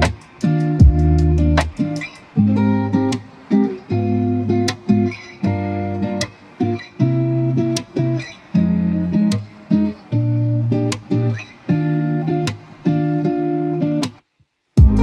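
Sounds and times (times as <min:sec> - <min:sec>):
strummed acoustic guitar chords: 0:00.0 - 0:14.2, 0:14.8 - 0:15.0.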